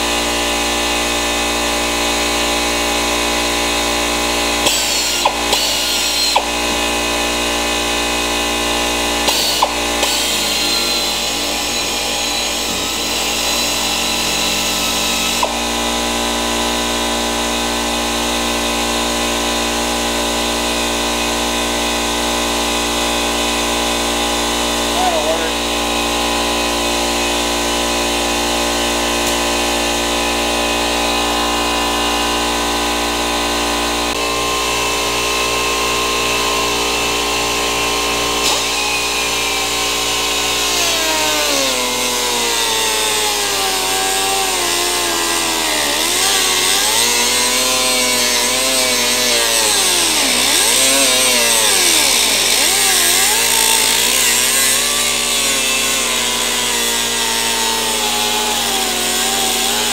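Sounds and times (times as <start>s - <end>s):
angle grinder whining: 0.0s - 59.9s.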